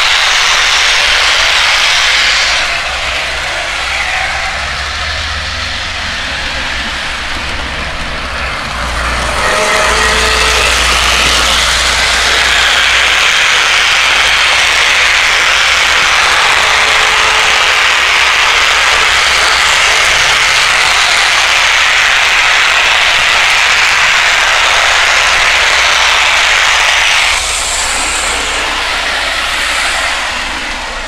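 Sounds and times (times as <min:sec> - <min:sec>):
model train whirring on track: 0:00.0 - 0:31.0.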